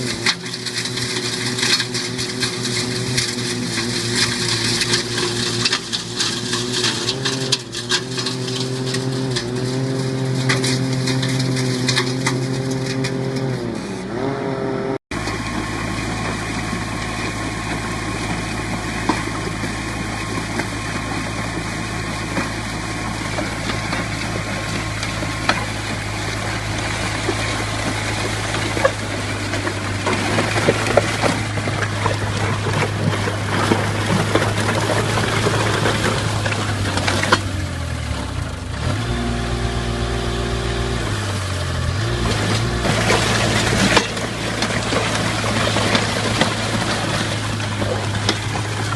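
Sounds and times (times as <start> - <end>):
construction machine engine running: 0.0 - 48.9
engine drone with low hum: 0.0 - 48.9.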